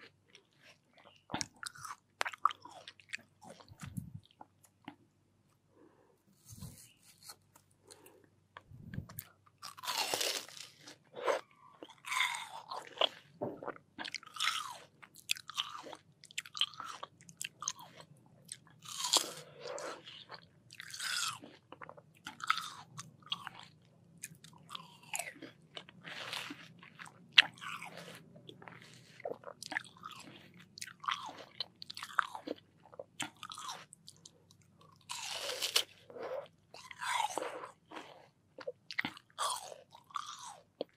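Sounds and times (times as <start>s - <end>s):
chewing crisp watermelon: 0.0s - 5.0s, 8.9s - 40.9s.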